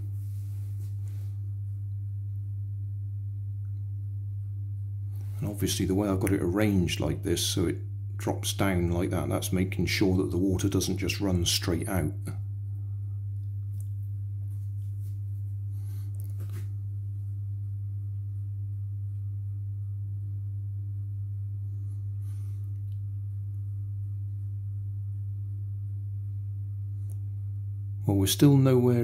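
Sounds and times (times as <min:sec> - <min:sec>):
deep electrical hum: 0:00.0 - 0:29.0.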